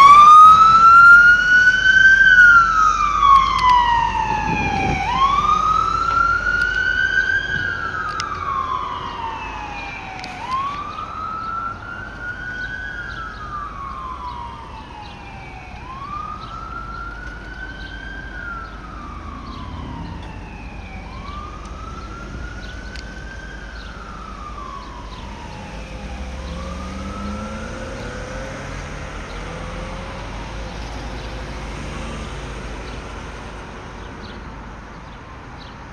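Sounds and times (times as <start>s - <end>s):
ambulance siren wailing: 0.0s - 33.6s
street traffic noise: 0.0s - 35.9s.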